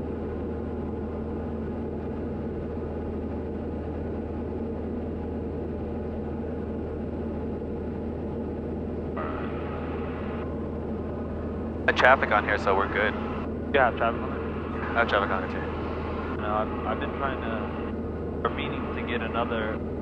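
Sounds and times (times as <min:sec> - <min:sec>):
propeller plane cabin drone: 0:00.0 - 0:20.0.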